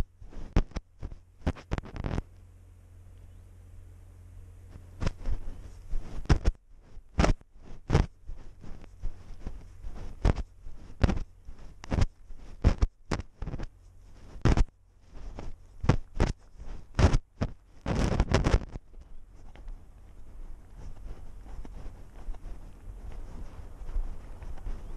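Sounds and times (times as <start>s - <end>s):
camera bumping and scraping: 0.0s - 2.3s, 4.7s - 24.9s
rustling against fur: 0.0s - 2.4s, 4.6s - 24.9s.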